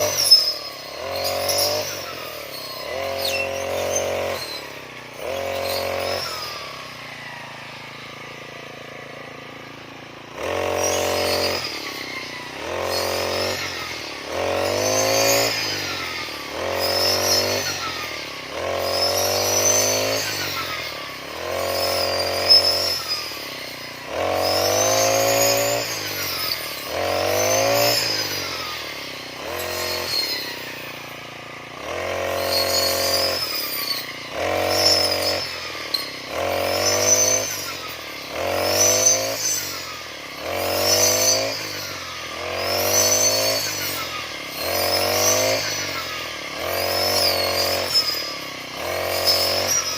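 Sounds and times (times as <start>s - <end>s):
brush cutter engine revving: 0.0s - 49.9s.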